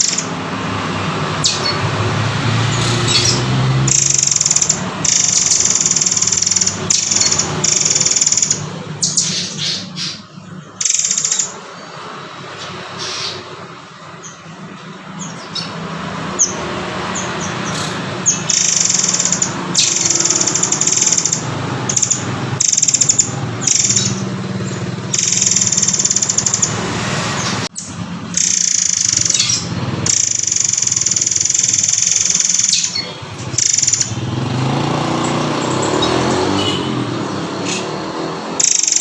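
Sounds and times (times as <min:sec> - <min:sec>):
bird rattling trills: 0:00.0 - 0:14.5, 0:15.2 - 0:39.0.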